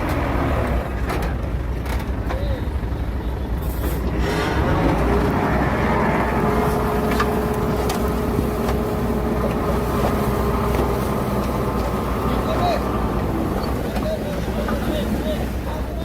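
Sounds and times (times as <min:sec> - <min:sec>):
diesel engine rumble: 0:00.0 - 0:16.0.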